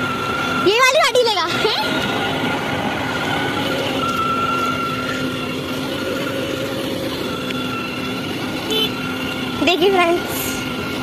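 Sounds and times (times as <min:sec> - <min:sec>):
toy car electric motor whine: 0:00.0 - 0:11.0.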